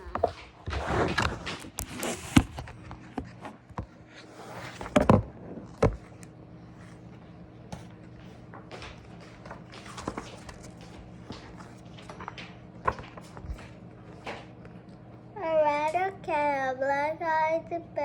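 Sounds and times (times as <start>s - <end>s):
book pages rustling and turning: 0.0s - 15.2s
faint steady hum: 0.0s - 18.0s.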